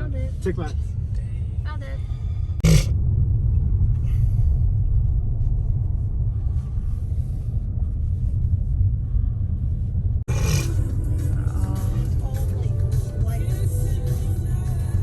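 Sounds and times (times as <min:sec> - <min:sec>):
car cabin low rumble: 0:00.0 - 0:15.0.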